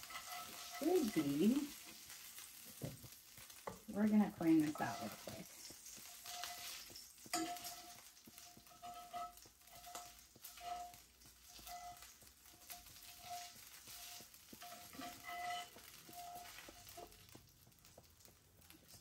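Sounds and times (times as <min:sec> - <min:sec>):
metal spatula scraping and clicking: 0:00.0 - 0:03.8, 0:04.6 - 0:19.0
meat sizzling in a skillet: 0:00.0 - 0:19.0.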